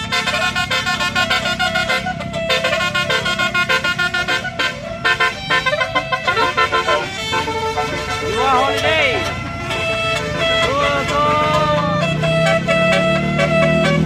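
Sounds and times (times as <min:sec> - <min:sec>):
bus engine rumble: 0:00.0 - 0:14.0
bus musical horn melody: 0:00.0 - 0:14.0.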